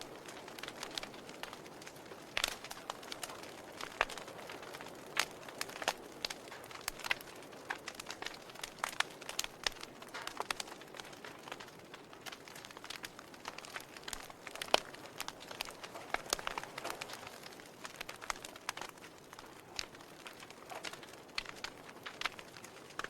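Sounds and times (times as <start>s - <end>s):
soft fire hiss: 0.0s - 23.0s
wood fire crackling: 0.0s - 23.0s.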